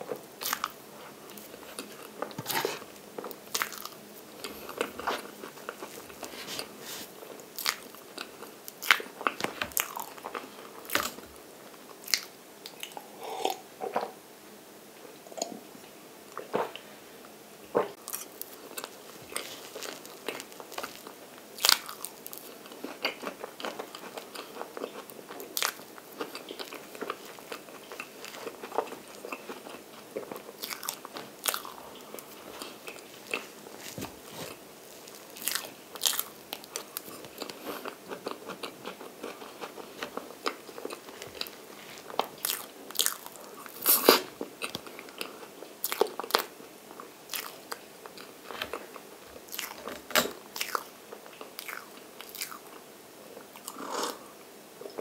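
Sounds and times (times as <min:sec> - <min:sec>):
soft chewing and mouth sounds: 0:00.0 - 0:14.2, 0:15.2 - 0:55.0.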